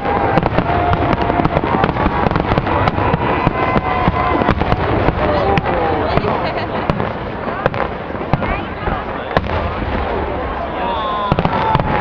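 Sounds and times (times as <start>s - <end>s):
fireworks bangs and cracks: 0.0s - 12.0s
fireworks whistling: 0.0s - 12.0s.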